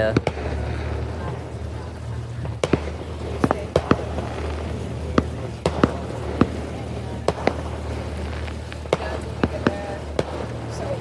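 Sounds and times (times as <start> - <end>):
boat motor humming: 0.0 - 11.0
distant firecrackers popping: 0.0 - 11.0.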